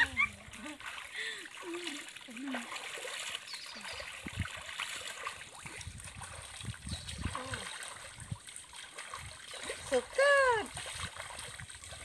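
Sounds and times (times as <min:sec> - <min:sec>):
hands splashing water: 0:00.0 - 0:12.0
river water flowing: 0:00.0 - 0:12.0.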